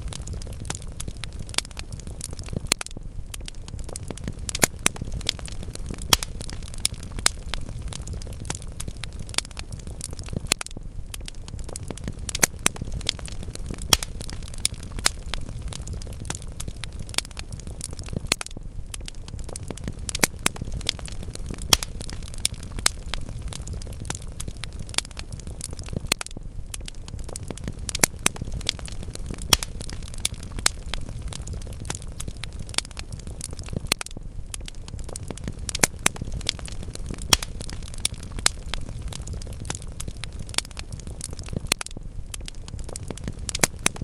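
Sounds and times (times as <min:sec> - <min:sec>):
fire rumbling: 0:00.0 - 0:44.0
logs crackling and popping: 0:00.0 - 0:44.0.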